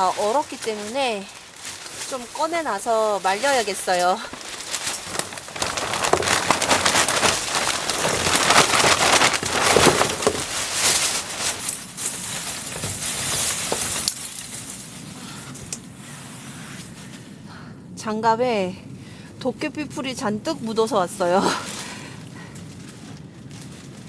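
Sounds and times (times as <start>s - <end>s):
firewood rustling and crackling: 0.0s - 24.0s.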